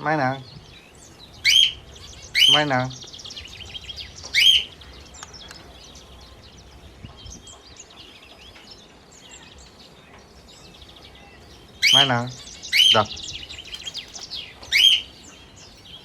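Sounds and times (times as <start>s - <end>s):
bird call: 0.0s - 16.0s
budgies twittering: 0.0s - 16.0s.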